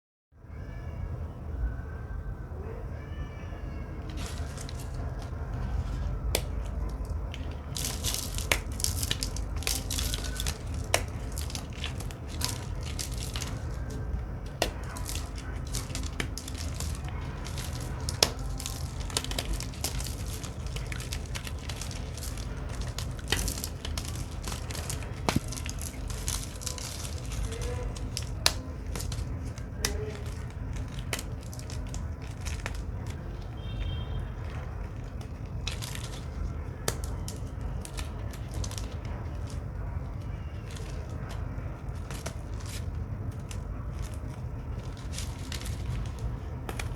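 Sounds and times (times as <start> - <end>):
brittle soap crunching: 4.0 - 46.9.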